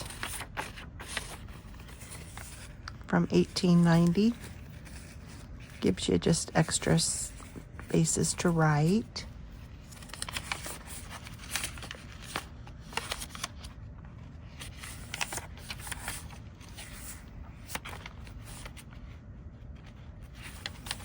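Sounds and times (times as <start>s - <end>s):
paper pages rustling: 0.0s - 21.0s.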